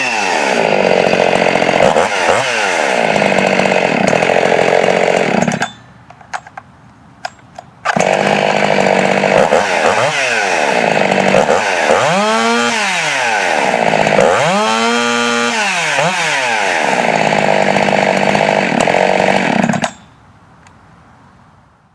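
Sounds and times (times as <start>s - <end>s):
chainsaw running at high revs: 0.0s - 5.6s, 7.9s - 19.9s.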